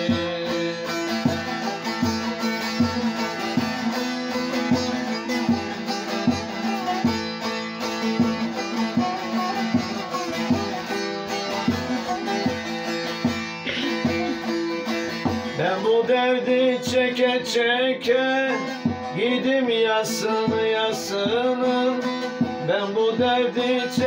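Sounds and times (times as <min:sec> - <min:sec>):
plucked long-necked lute melody: 0:00.0 - 0:24.0.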